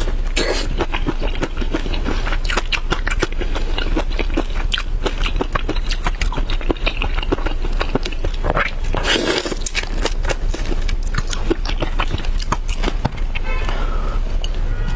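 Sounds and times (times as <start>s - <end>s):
wet chewing clicks: 0.0s - 13.5s.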